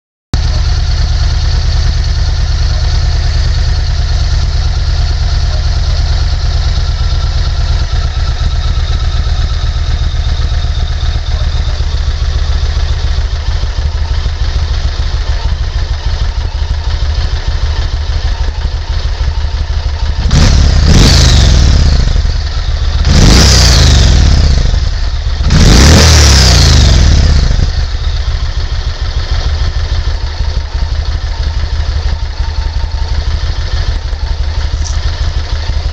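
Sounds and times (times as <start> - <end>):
motorcycle engine idling: 0.4 - 35.9
motorcycle engine revving: 0.4 - 35.9.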